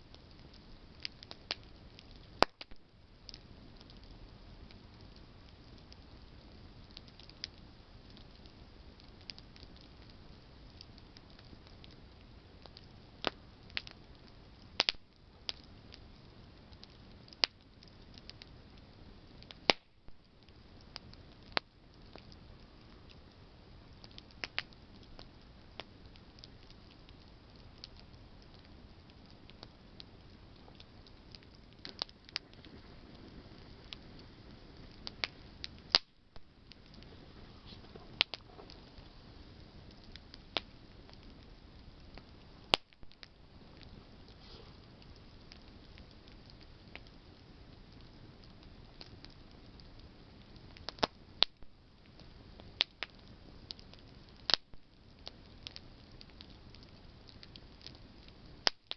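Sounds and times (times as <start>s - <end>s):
campfire crackling: 0.0s - 58.9s
low hiss of fire: 0.0s - 58.9s.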